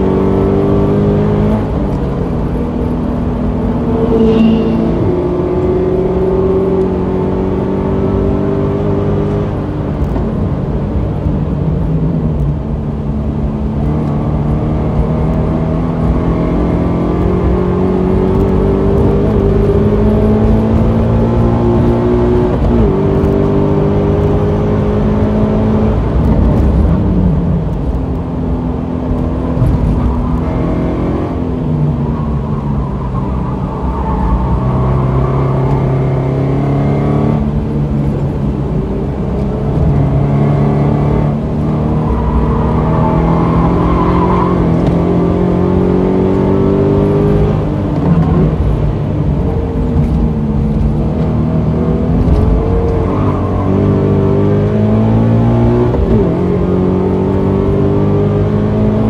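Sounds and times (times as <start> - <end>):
car engine pulling hard: 0.0 - 59.0.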